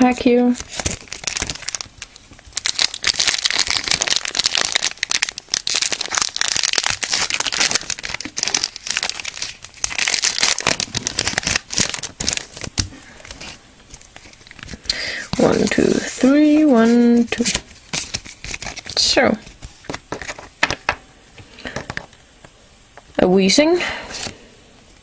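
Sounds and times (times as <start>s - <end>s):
foil wrapper crinkling and tearing: 0.0s - 20.8s.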